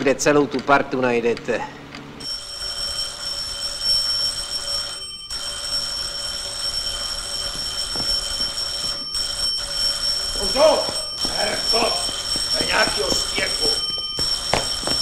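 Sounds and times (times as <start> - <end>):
electric bell ringing: 2.2 - 15.0.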